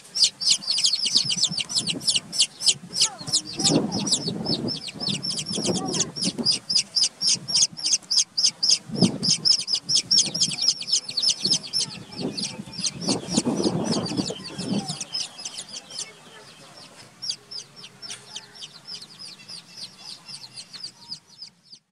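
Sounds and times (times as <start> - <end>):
baby chicks peeping: 0.0 - 21.9.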